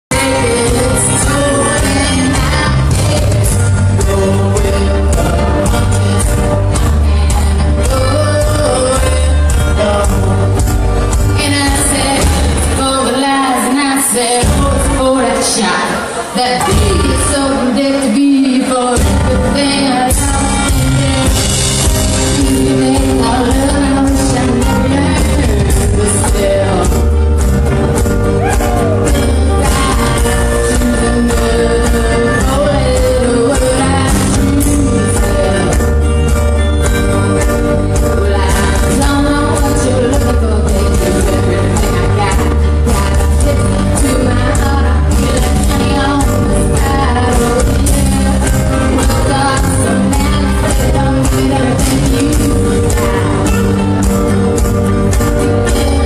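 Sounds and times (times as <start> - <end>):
band playing live: 0.1 - 56.0
person singing: 0.1 - 56.0.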